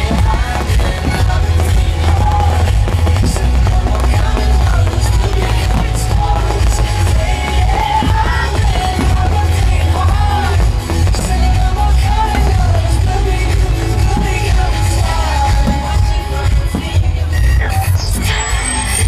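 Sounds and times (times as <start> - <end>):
loud music with heavy bass: 0.0 - 19.0
person singing: 0.0 - 19.0.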